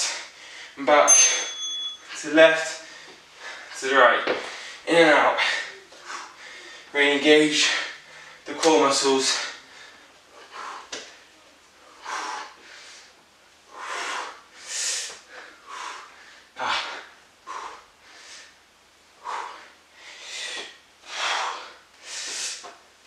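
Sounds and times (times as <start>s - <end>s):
man breathing hard: 0.0s - 0.8s, 2.6s - 3.8s, 4.4s - 8.5s, 9.2s - 22.8s.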